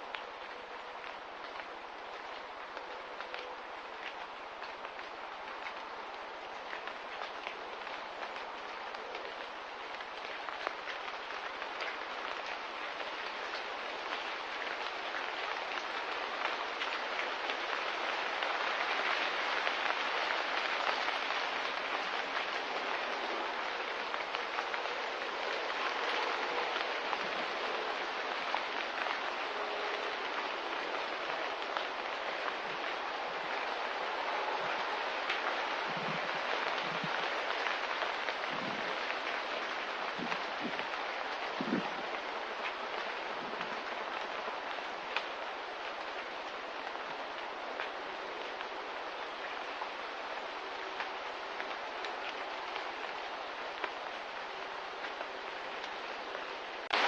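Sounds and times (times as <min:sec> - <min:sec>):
light rain hissing: 0:00.0 - 0:57.0.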